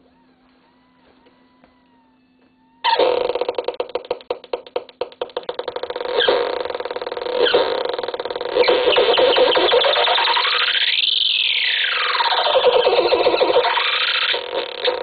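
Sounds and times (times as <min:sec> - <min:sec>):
toy keyboard glitchy buzz: 0:02.8 - 0:15.0.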